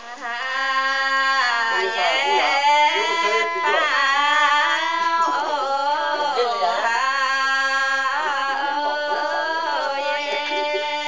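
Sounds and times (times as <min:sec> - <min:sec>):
women singing folk song: 0:00.0 - 0:11.0.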